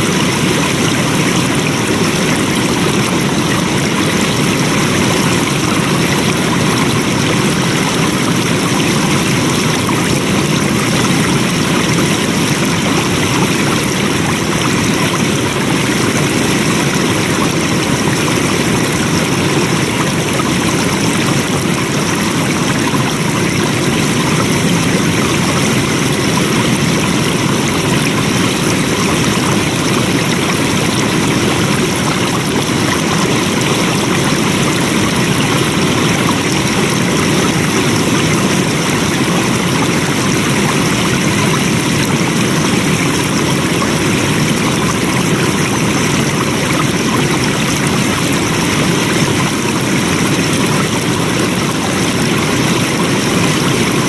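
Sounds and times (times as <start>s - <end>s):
flowing water: 0.0s - 54.0s.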